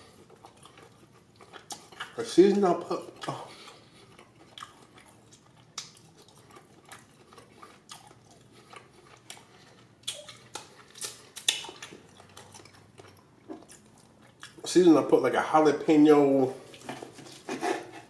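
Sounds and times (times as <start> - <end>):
wet chewing mouth sounds: 0.0 - 14.8.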